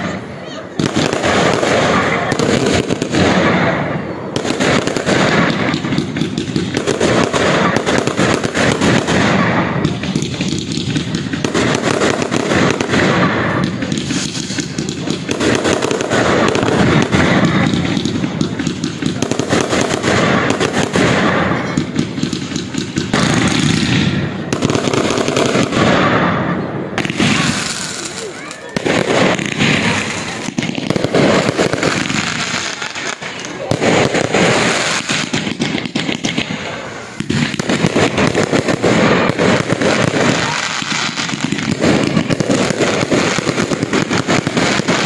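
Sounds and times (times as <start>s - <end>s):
fireworks crackling and banging: 0.0s - 45.0s.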